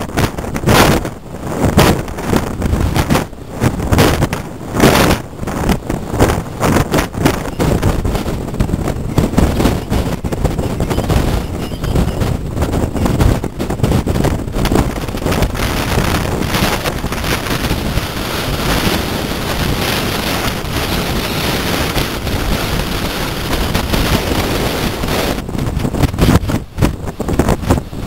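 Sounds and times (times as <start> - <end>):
rough sea surf: 0.0 - 28.0
wind buffeting microphone: 0.0 - 28.0.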